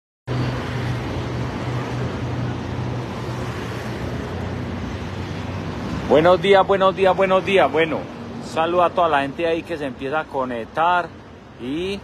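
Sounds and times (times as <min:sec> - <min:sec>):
outdoor background noise: 0:00.3 - 0:12.0.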